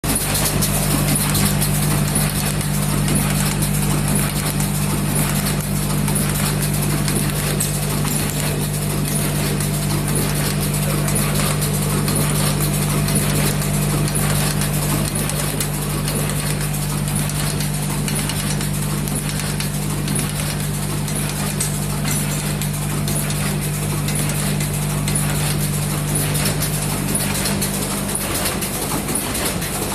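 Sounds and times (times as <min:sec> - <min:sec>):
motor hum: 0:00.0 - 0:29.9
rhythmic mechanical clatter: 0:00.0 - 0:29.9.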